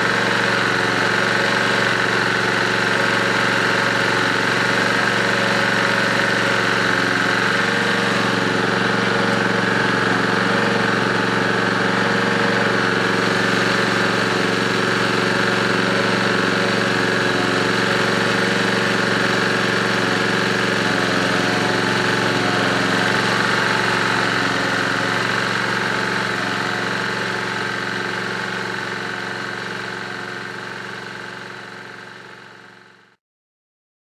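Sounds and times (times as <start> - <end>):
generator engine running: 0.0 - 33.2.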